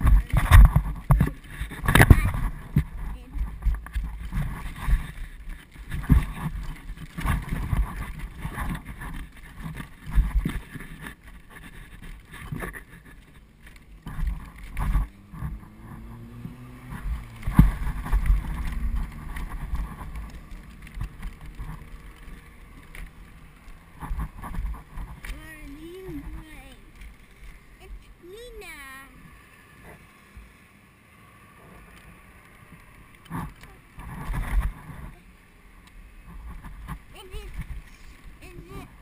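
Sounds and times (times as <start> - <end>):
wind on microphone: 0.0 - 28.5, 33.3 - 35.3, 36.0 - 39.0.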